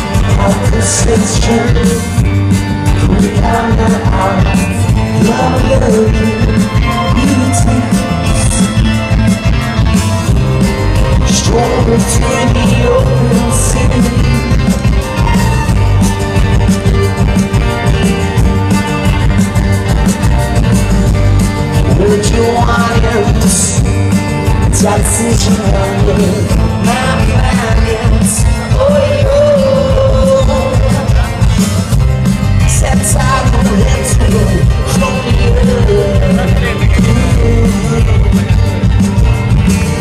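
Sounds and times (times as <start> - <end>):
live rock band: 0.0 - 40.0.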